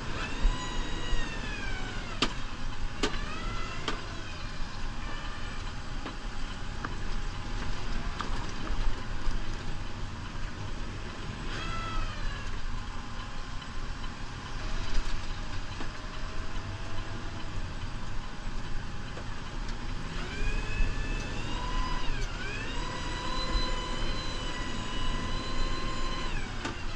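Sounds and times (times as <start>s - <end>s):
engine whine: 0.0s - 26.9s
tractor diesel engine rumbling: 0.0s - 26.9s.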